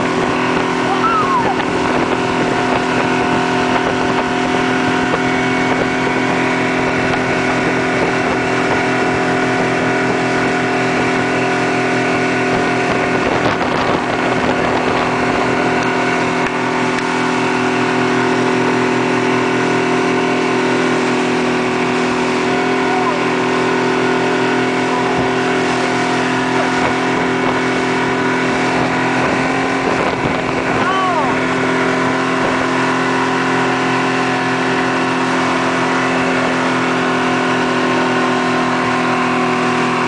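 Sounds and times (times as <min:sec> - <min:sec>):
motorboat engine running: 0:00.0 - 0:40.0
rush of churning wake: 0:00.0 - 0:40.0.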